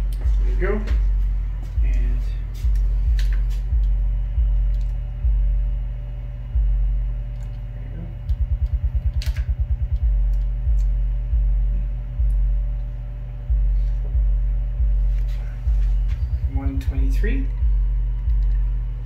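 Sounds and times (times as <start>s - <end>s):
low test tone: 0.0s - 19.0s.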